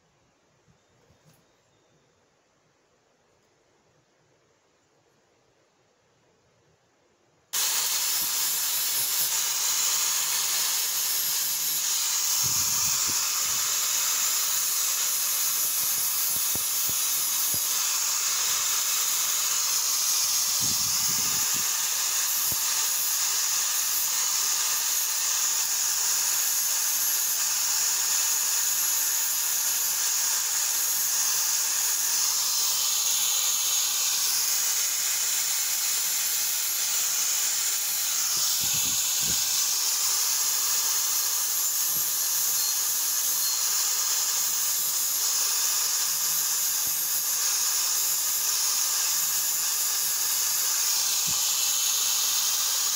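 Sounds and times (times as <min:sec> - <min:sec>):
angle grinder grinding steel: 0:07.6 - 0:52.9.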